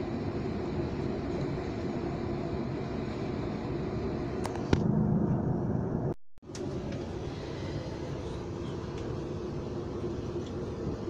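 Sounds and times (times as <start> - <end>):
wheels rumbling on track: 0.0 - 11.0.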